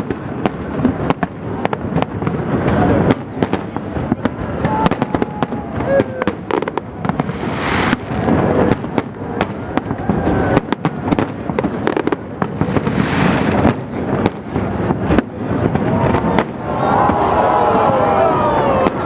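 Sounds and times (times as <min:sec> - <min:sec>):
firework bangs: 0:00.0 - 0:19.0
firework crackle: 0:00.0 - 0:19.0.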